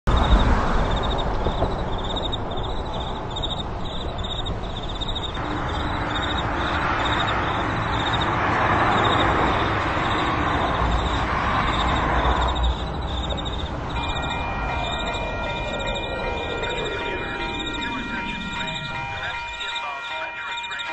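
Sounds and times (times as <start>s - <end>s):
train running by: 0.1s - 20.9s
railroad crossing bell ringing: 2.0s - 20.9s.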